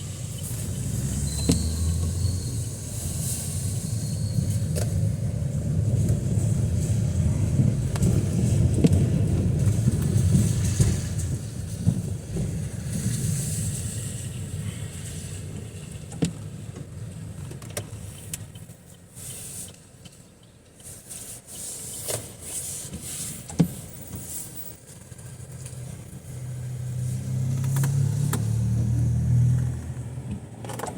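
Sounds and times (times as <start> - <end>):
car engine rumble: 0.0 - 30.9.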